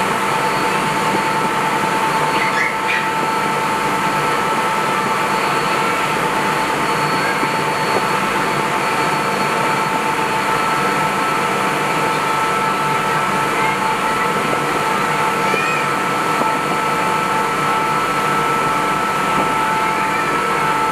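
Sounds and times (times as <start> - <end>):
ferry running noise: 0.0 - 20.9
high whine: 0.0 - 20.9.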